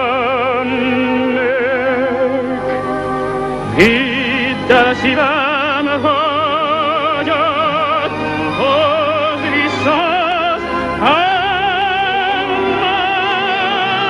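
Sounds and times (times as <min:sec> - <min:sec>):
orchestral music with vibrato melody: 0:00.0 - 0:14.0.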